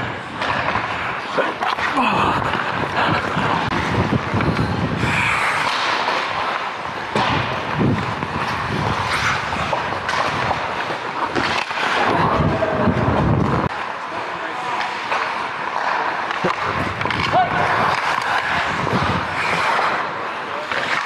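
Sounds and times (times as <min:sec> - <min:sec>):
hockey sticks and puck clacking: 0:00.0 - 0:21.0
skate blades scraping ice: 0:00.0 - 0:21.0.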